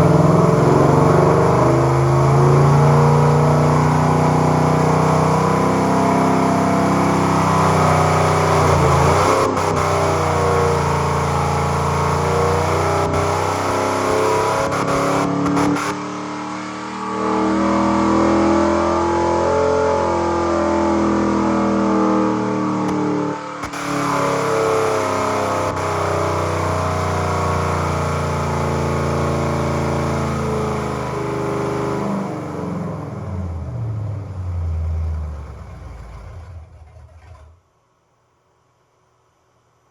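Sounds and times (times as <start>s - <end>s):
v eight engine at high rpm: 0.0s - 37.6s.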